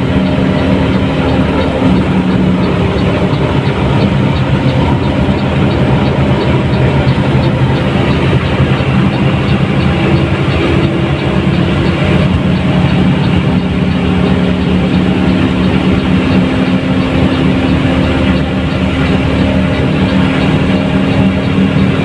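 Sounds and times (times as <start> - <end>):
bus diesel engine running: 0.0 - 22.0
road noise: 0.0 - 22.0.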